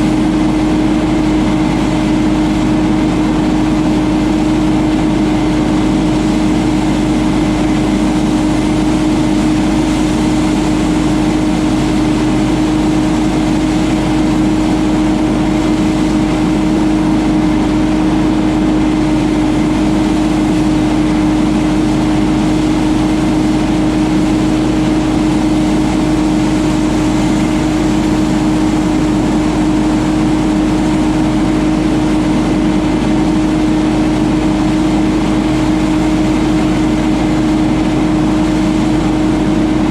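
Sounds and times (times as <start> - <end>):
debris blower engine running: 0.0 - 39.9
loud rush of air: 0.0 - 39.9.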